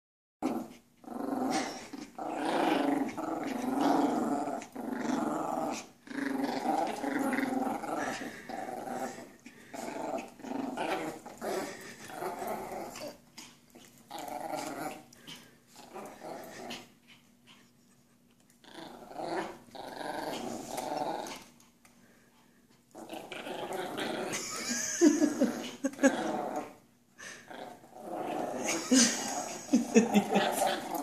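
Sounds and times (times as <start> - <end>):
small dogs growling in play: 0.4 - 31.0.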